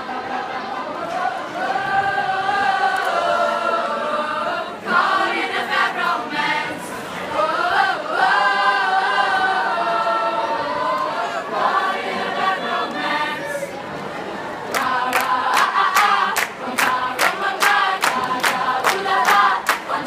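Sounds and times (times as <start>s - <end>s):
choir singing: 0.0s - 13.8s, 14.5s - 20.0s.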